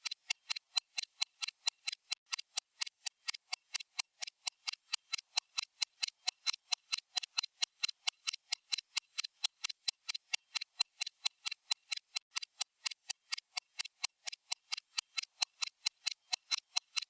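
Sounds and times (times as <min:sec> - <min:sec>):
stopwatch ticking: 0:00.0 - 0:17.0.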